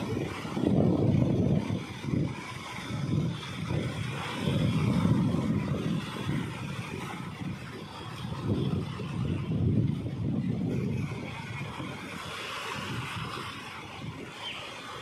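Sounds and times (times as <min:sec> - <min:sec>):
waves breaking in shallows: 0:00.0 - 0:15.0
wind rumbling on microphone: 0:00.0 - 0:15.0.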